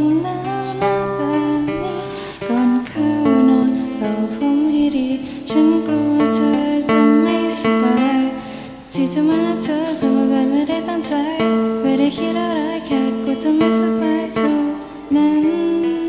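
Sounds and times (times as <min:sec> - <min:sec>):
acoustic guitar chords: 0:00.0 - 0:16.0
person singing: 0:00.0 - 0:16.0.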